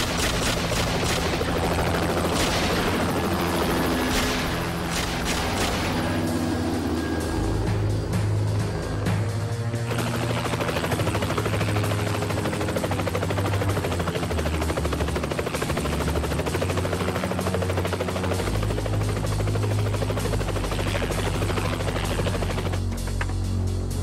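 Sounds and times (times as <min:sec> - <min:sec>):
engine low drone: 0:00.0 - 0:24.0
helicopter rotor blades chopping: 0:00.0 - 0:24.0.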